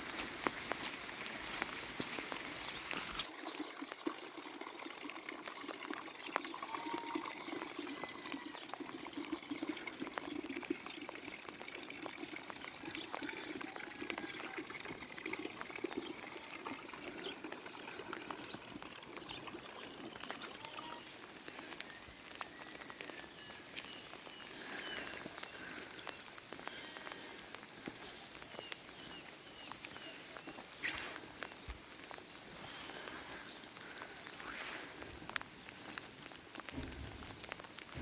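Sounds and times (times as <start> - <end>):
rain falling: 0.0 - 38.0
water pouring and trickling: 0.0 - 38.0
drips ticking on surfaces: 0.1 - 38.0.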